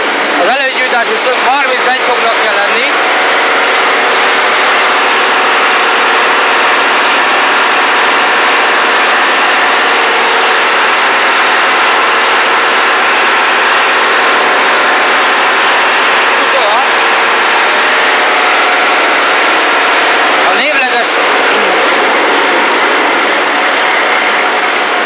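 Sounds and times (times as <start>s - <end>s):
truck engine high-revving: 0.0s - 25.0s.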